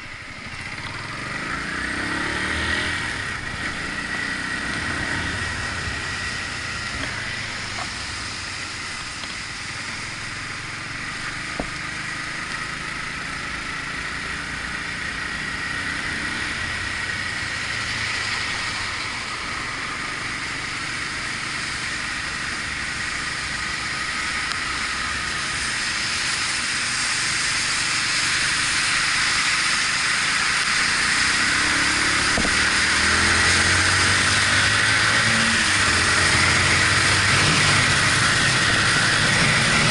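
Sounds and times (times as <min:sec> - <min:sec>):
motorcycle engine running: 0:00.0 - 0:39.9
wind and wet road hiss: 0:00.0 - 0:39.9.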